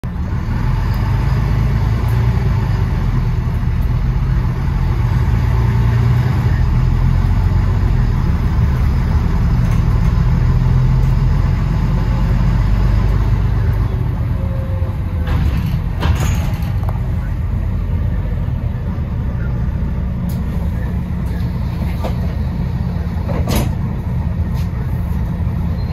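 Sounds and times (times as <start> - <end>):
bus engine droning: 0.0 - 25.9.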